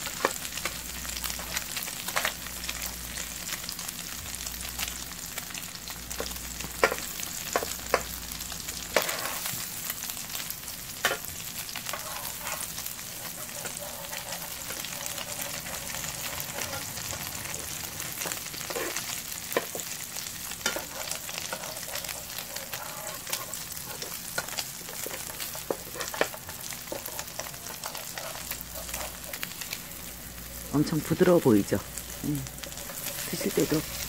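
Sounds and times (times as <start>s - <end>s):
oil crackling and popping: 0.0s - 34.0s
patties sizzling in oil: 0.0s - 34.0s.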